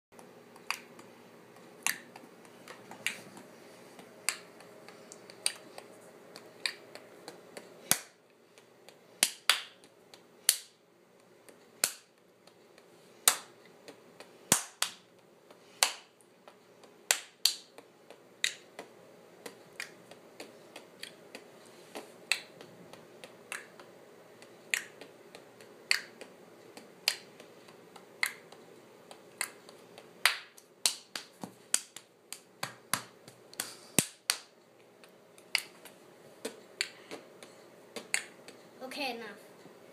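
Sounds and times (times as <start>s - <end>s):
faint steady hum: 0.2s - 39.9s.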